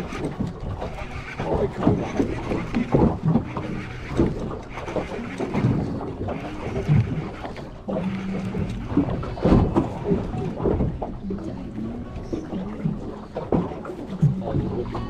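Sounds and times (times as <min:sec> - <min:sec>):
water moving around boat: 0:00.0 - 0:15.0.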